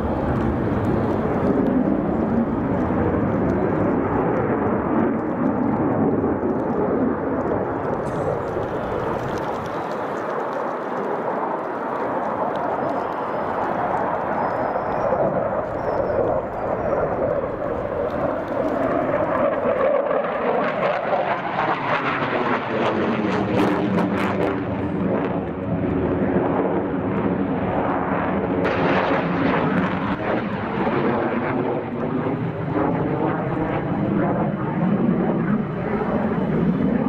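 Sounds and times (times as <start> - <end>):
jet flying overhead: 0.0 - 37.0.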